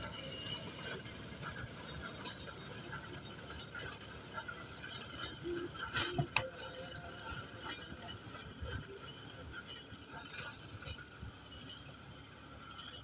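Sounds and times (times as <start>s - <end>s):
tractor engine rumbling under load: 0.0s - 13.0s.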